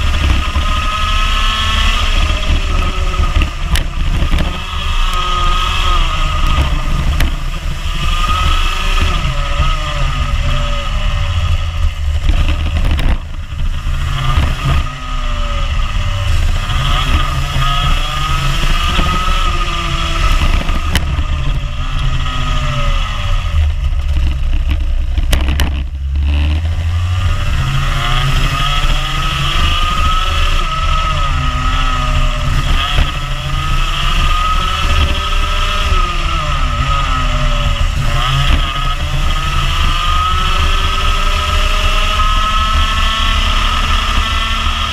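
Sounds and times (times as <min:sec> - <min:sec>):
kart engine revving: 0:00.0 - 0:44.9.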